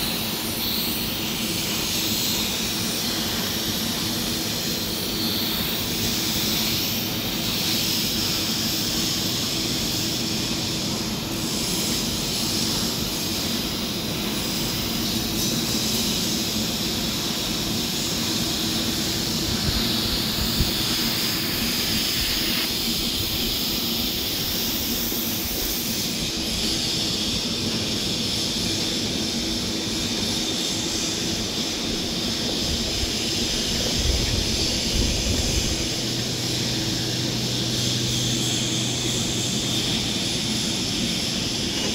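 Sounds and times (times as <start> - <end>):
welding arc hissing: 0.0 - 41.9.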